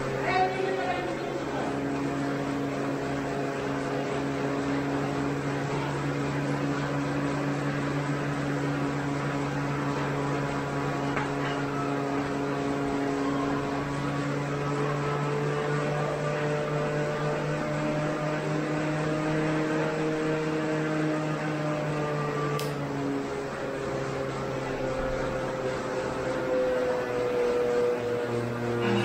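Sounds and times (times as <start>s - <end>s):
bicycle wheel whirring on trainer: 0.0s - 29.0s.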